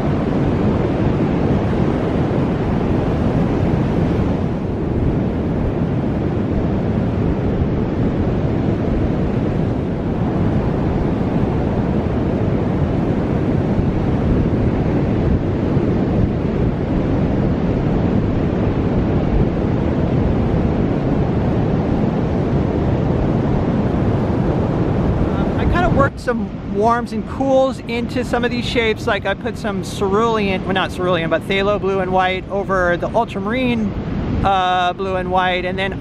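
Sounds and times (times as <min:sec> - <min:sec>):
ocean surf: 0:00.0 - 0:36.0
wind blowing over microphone: 0:00.0 - 0:36.0.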